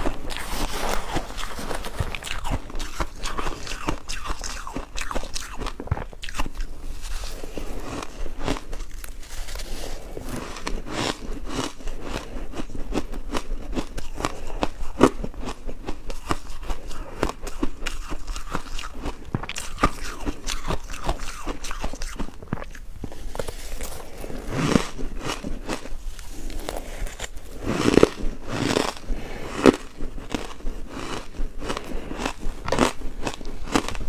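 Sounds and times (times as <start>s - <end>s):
ice being chewed: 0.0s - 34.0s.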